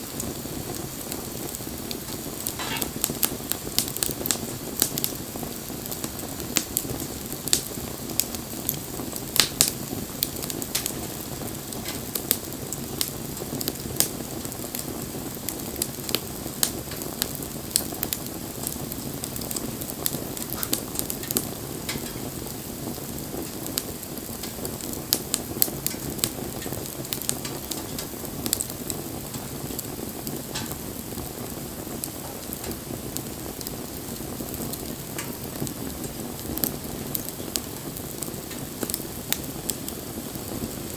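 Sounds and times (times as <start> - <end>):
burning wood crackling and popping: 0.0 - 40.9
fire hissing: 0.0 - 40.9.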